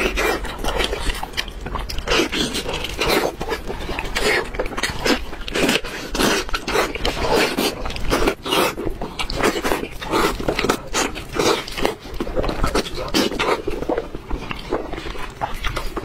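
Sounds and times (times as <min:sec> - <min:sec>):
biting and chewing meat: 0:00.0 - 0:16.0.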